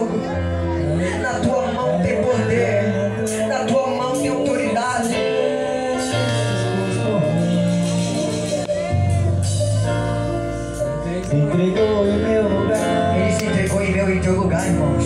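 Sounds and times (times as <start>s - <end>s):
bass notes: 0.0s - 15.0s
keyboard chords: 0.0s - 15.0s
singing: 0.0s - 15.0s.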